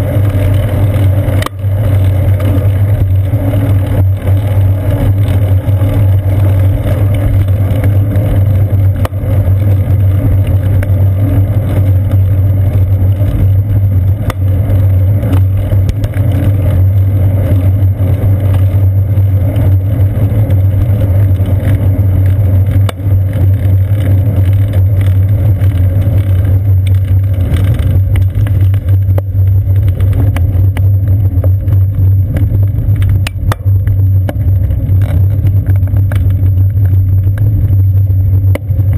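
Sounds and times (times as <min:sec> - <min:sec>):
bicycle clicks and rattles: 0:00.0 - 0:38.9
wind and road vibration rumble: 0:00.0 - 0:38.9.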